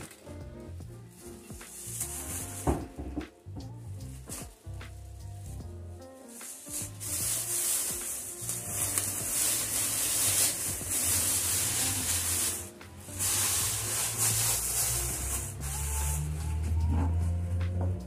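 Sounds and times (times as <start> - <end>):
plastic wrapping crinkling: 0.0 - 0.4, 1.0 - 3.2, 4.0 - 16.8
faint background music: 0.0 - 18.0.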